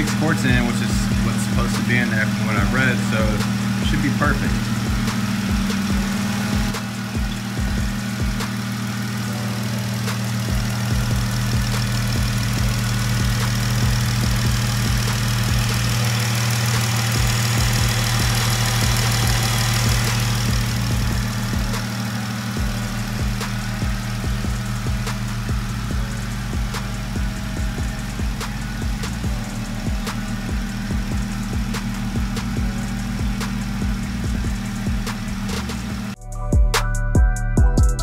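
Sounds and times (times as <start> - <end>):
car engine idling: 0.0 - 36.2.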